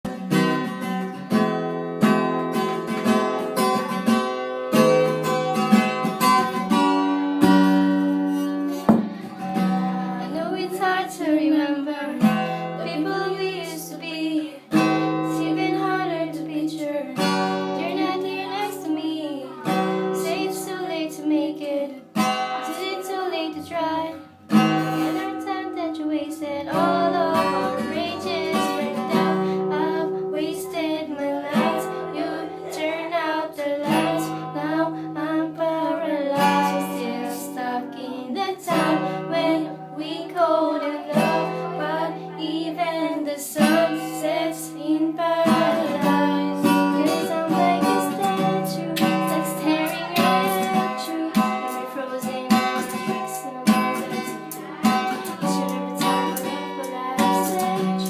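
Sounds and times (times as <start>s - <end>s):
acoustic guitar strumming chords: 0.1s - 58.0s
person singing: 7.4s - 58.0s.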